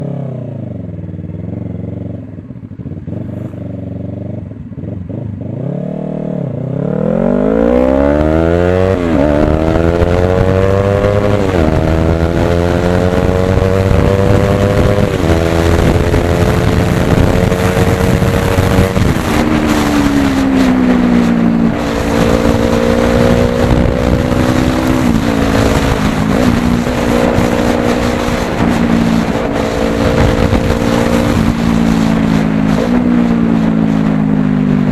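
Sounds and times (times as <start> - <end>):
motorcycle engine accelerating through gears: 0.0 - 34.9.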